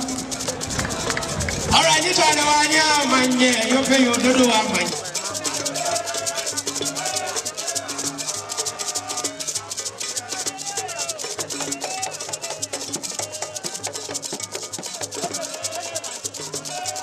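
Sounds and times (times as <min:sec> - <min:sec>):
background music with shaker and bass: 0:00.0 - 0:17.0.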